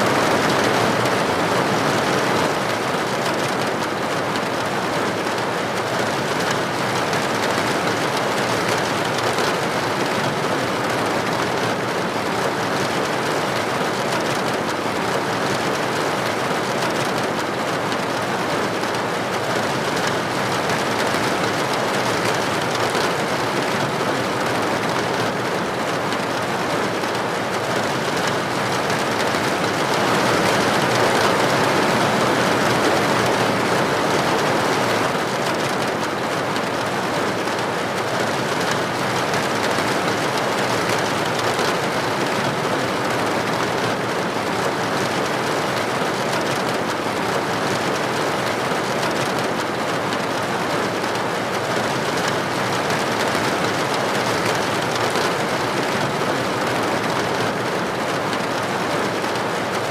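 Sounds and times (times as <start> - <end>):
heavy rain on hard surface: 0.0 - 59.9.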